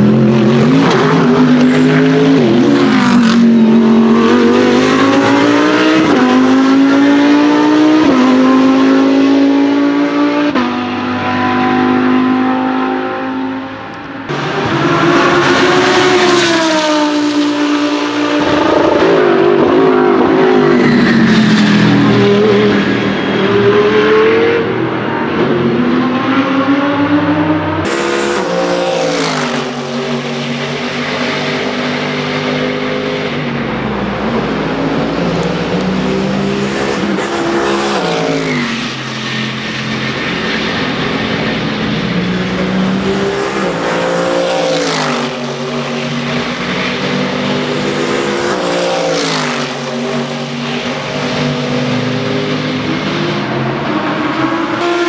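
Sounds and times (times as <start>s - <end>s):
race car engines accelerating: 0.0s - 55.0s.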